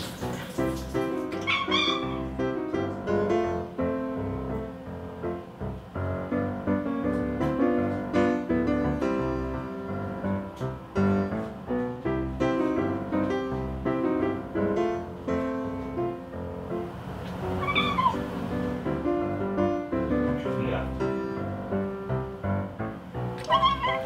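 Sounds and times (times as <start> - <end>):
upbeat piano music: 0.0 - 24.0.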